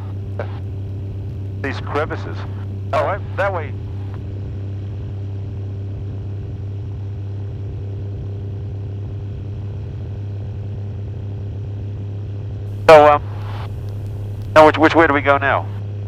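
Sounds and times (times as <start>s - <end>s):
light airplane engine drone: 0.0s - 16.0s.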